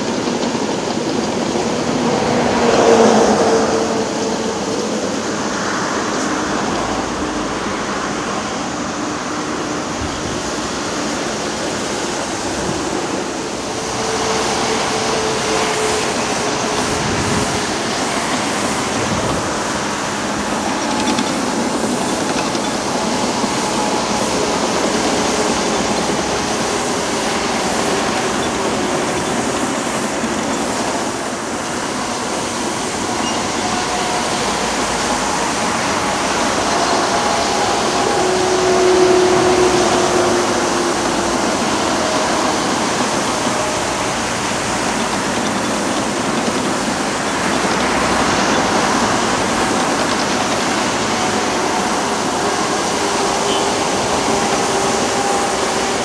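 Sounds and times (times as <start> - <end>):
distant construction machinery: 0.0 - 56.0
motorway traffic rolling past: 0.0 - 56.0.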